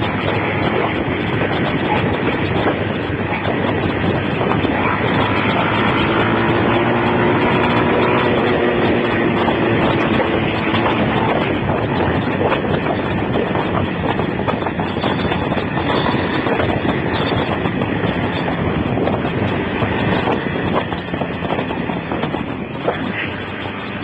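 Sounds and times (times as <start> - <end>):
motorcycle engine: 0.0 - 24.0
wind noise on microphone: 0.0 - 24.0.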